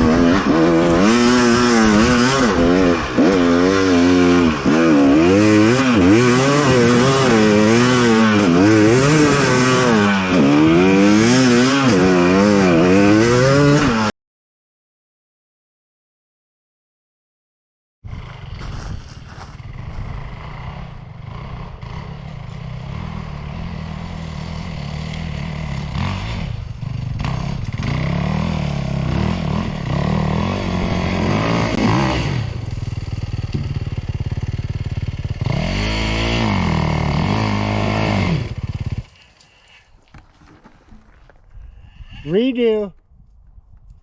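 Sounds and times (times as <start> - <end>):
dirt bike engine revving: 0.0 - 14.1, 18.1 - 40.8.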